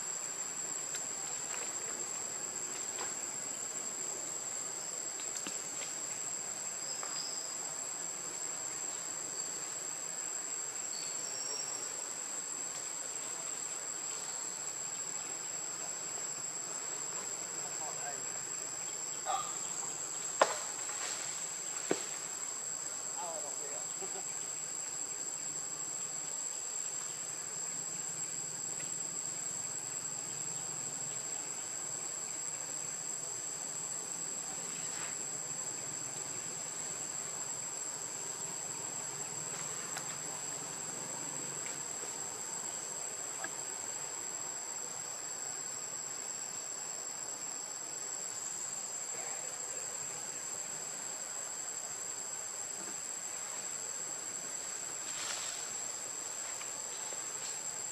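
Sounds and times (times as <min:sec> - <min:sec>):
insects droning: 0:00.0 - 0:57.9.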